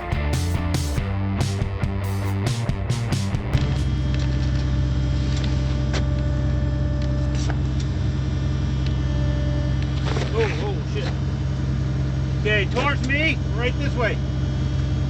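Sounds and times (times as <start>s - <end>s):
machine engine running: 0.0s - 15.0s.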